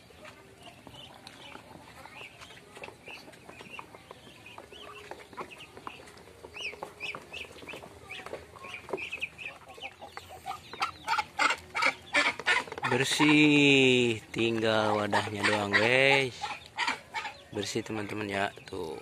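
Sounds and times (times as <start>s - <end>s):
ducks and chickens chirping and clucking: 0.0s - 19.0s.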